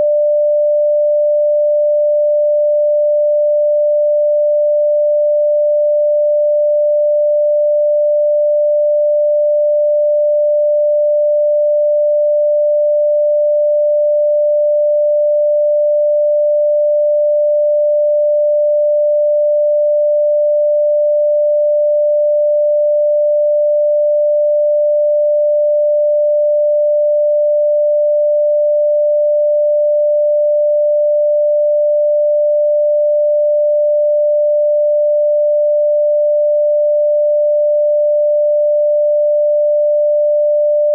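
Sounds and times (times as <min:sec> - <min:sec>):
steady electronic sine tone: 0:00.0 - 0:40.9.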